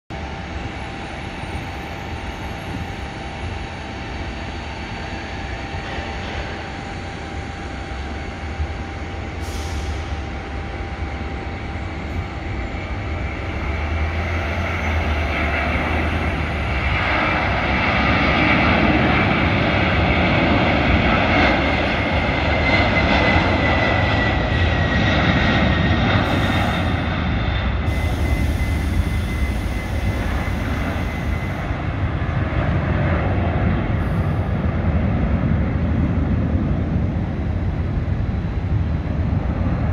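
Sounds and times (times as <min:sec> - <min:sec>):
jet engine whine: 0:00.1 - 0:39.9
jet engines rumbling: 0:00.1 - 0:39.9.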